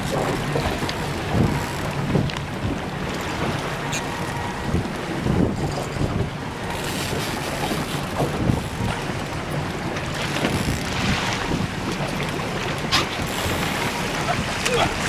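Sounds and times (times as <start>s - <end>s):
boat engine running: 0.0s - 15.0s
waves washing against hull: 0.0s - 15.0s
wind buffeting microphone: 0.0s - 15.0s.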